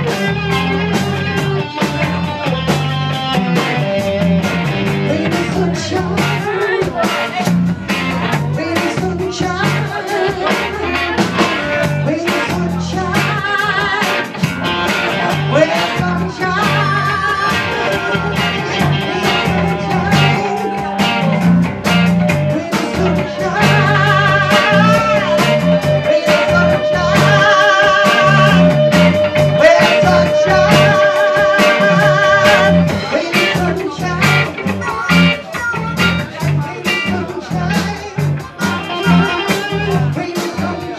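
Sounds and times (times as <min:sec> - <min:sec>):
live blues-rock band playing: 0:00.0 - 0:40.9
person singing: 0:00.0 - 0:40.9.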